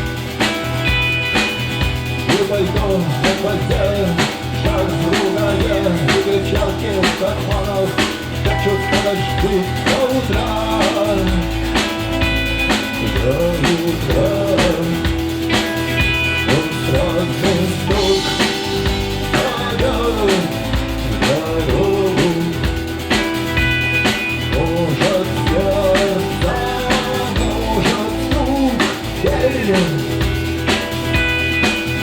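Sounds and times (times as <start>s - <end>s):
drum kit beat: 0.0s - 32.0s
live rock band playing: 0.0s - 32.0s.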